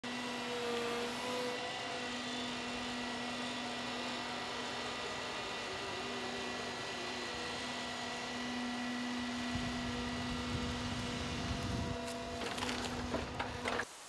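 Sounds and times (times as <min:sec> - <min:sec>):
log loader engine and hydraulics droning: 0:00.0 - 0:13.9.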